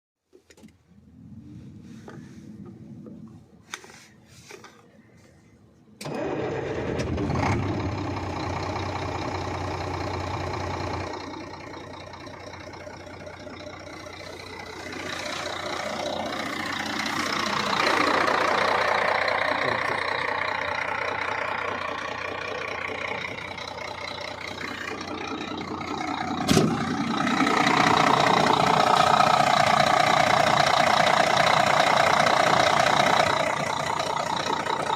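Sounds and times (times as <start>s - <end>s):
diesel truck engine starting: 0.4s - 34.9s.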